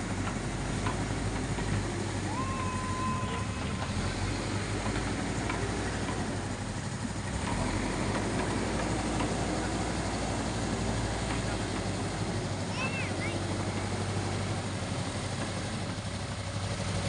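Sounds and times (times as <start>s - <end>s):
loading machine diesel engine: 0.0s - 17.0s.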